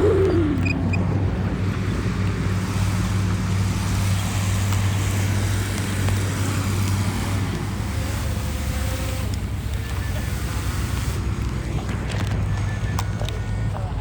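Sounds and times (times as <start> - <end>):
diesel engine humming under load: 0.0 - 14.0.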